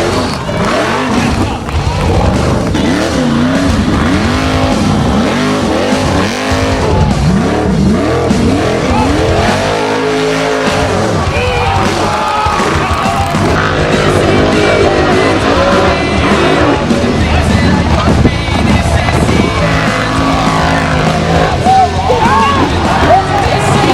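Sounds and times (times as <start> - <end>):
car engine revving hard: 0.0 - 23.9.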